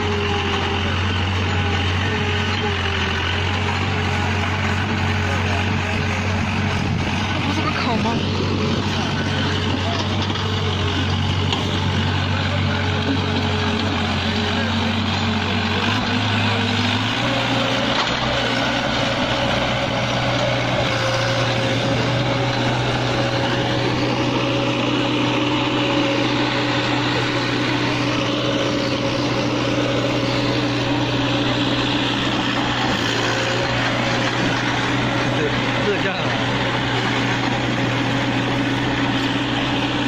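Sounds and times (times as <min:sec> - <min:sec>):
drilling rig engine hum: 0:00.0 - 0:40.0.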